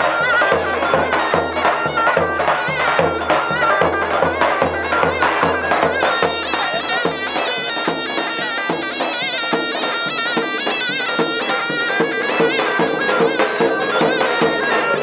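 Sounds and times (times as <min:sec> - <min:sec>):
big drum steady beat: 0:00.0 - 0:15.0
reedy wind instrument melody: 0:00.0 - 0:15.0.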